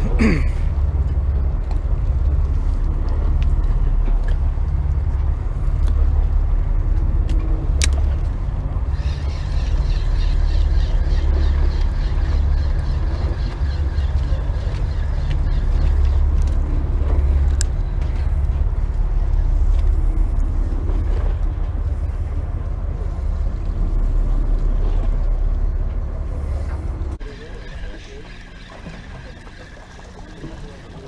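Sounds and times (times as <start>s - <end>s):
boat engine rumbling: 0.0s - 31.0s.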